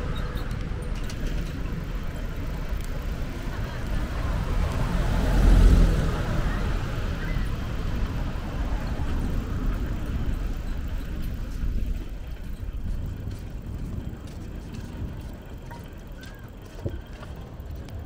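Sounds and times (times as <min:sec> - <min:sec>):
passing vehicle rumble: 0:00.0 - 0:18.0.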